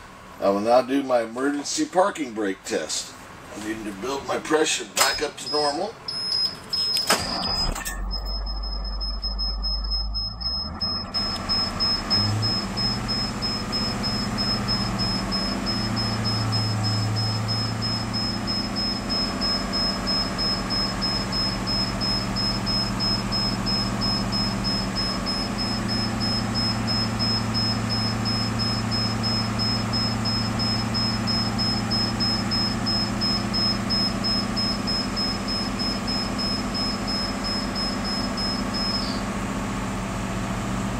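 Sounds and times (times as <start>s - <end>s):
bus engine running: 6.6s - 40.9s.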